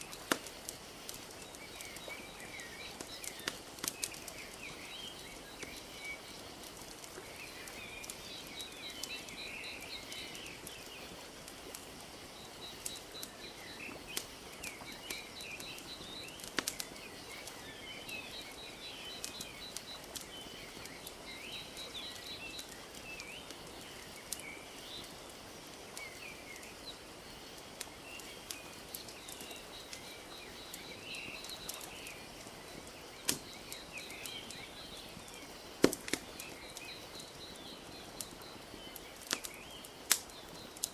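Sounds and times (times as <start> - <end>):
birds chirping: 0.0 - 40.9
fire crackling: 0.0 - 40.9.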